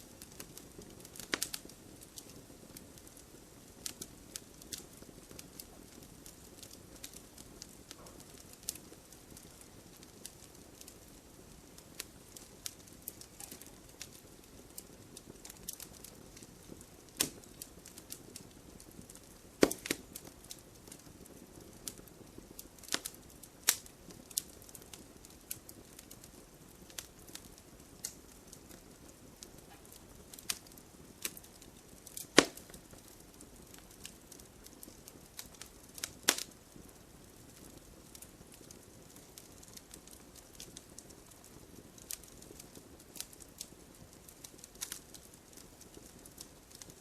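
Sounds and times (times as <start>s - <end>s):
fire crackling and popping: 0.0s - 47.0s
fire hissing: 0.0s - 47.0s.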